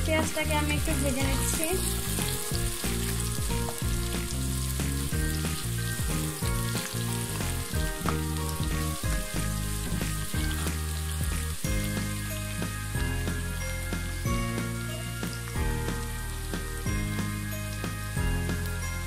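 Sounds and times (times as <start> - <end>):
background music: 0.0 - 19.0
onions sizzling in hot oil: 0.0 - 19.0.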